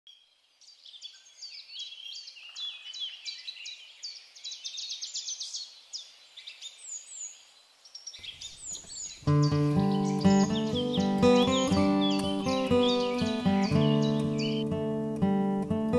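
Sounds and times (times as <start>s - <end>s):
faint outdoor hiss: 0.1s - 15.9s
small birds chirping: 0.1s - 15.9s.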